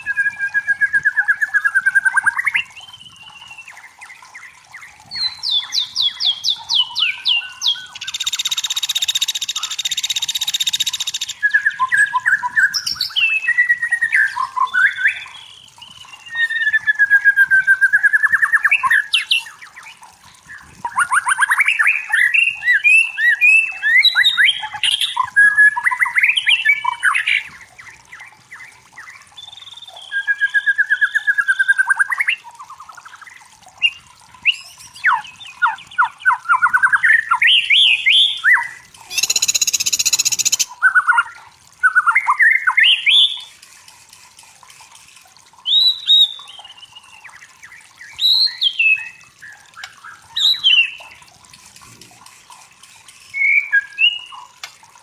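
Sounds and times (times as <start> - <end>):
bird singing whistles and trills: 0.0 - 43.5, 45.6 - 51.1, 53.3 - 54.5.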